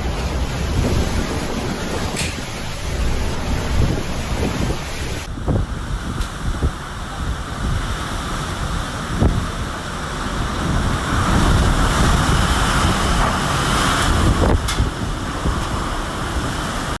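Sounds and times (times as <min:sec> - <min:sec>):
storm wind on microphone: 0:00.0 - 0:17.0.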